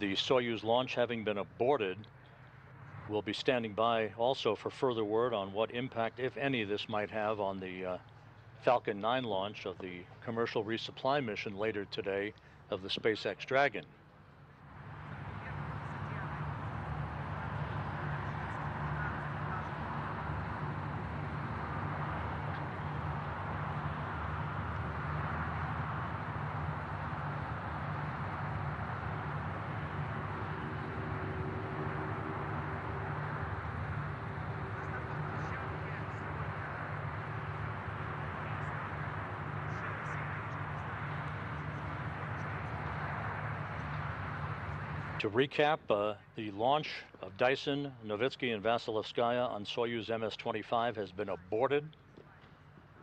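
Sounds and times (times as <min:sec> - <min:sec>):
low mechanical hum: 0:00.0 - 0:45.4.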